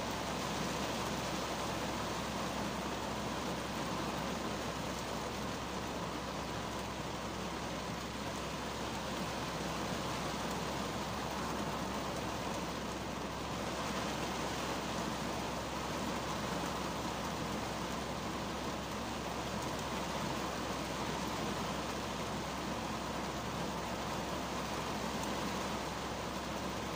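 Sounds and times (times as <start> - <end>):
heavy rain on car roof: 0.0 - 26.9.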